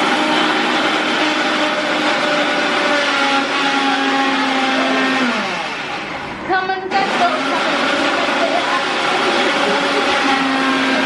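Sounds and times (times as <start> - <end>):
mixer grinder running: 0.0 - 11.0.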